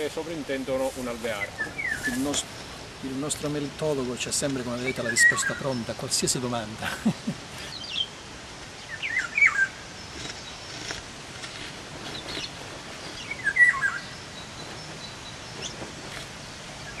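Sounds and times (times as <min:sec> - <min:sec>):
faint outdoor background noise: 0:00.0 - 0:17.0
songbirds singing: 0:00.0 - 0:17.0.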